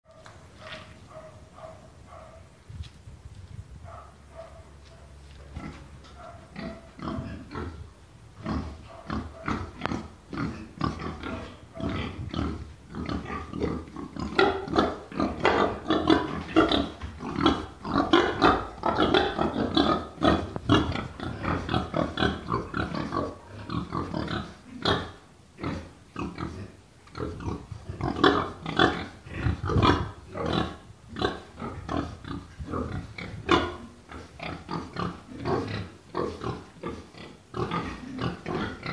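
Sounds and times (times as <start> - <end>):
young pigs grunting: 6.6 - 38.9.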